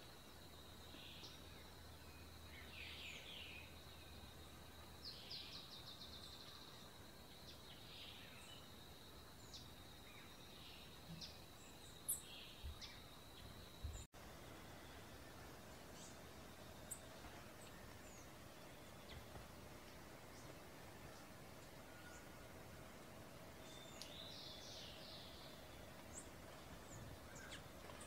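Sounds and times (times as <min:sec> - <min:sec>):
songbird chirps and trills: 0:00.0 - 0:28.0.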